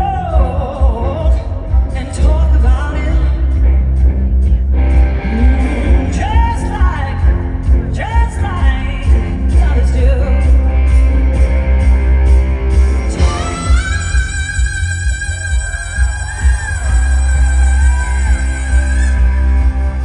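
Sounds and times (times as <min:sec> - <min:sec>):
woman singing lead: 0:00.0 - 0:11.6, 0:13.0 - 0:20.0
live rock band playing: 0:00.0 - 0:20.0.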